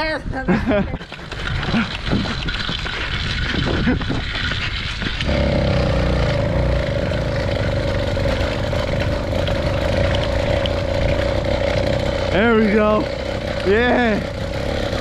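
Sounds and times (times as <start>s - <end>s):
two-stroke motorbike engine: 0.5s - 15.0s.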